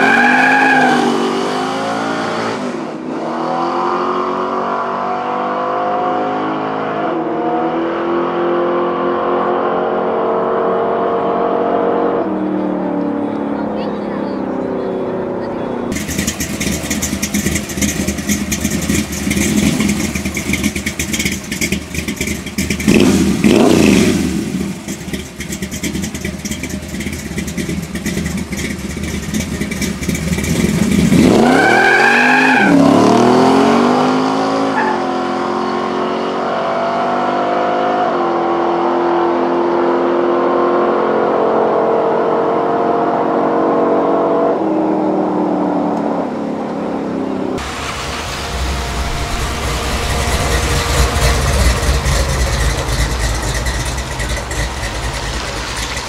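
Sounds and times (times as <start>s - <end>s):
muscle car engine accelerating: 0.0s - 56.0s.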